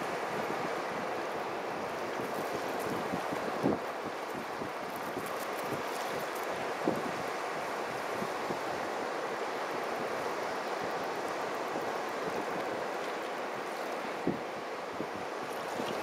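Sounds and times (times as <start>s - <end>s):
sea surf washing: 0.0s - 16.0s.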